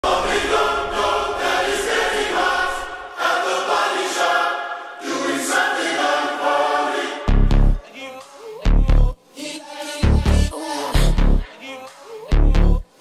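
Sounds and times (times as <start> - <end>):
choir-like voices singing: 0.0 - 13.0.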